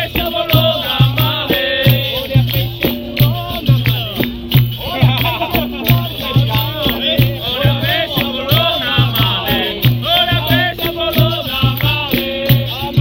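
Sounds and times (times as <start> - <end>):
low hand drum beat: 0.0 - 13.0
shaker rattle: 0.0 - 13.0
sharp percussive clicks: 0.0 - 13.0
voices singing: 0.0 - 13.0.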